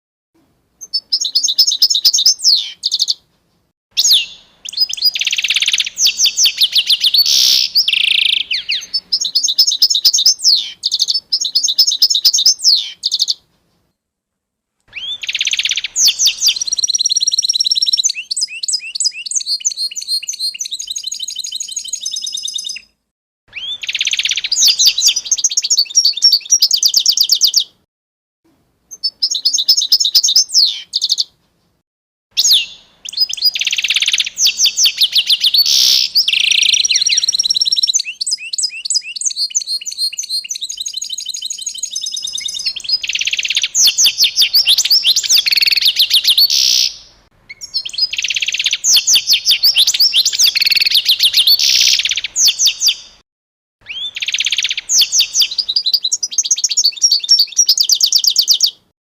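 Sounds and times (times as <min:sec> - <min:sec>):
songbirds chirping and trilling: 0:00.8 - 0:03.4, 0:04.0 - 0:13.9, 0:14.9 - 0:27.8, 0:28.9 - 0:31.4, 0:32.4 - 0:53.2, 0:53.8 - 0:58.9.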